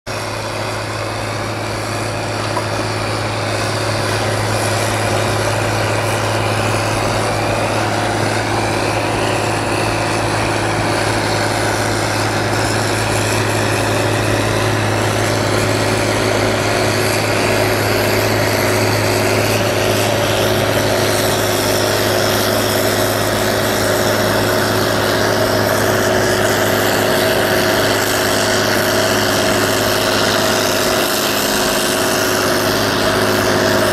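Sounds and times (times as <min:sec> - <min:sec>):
low engine hum: 0:00.1 - 0:33.9
snowblower rushing snow: 0:00.1 - 0:33.9.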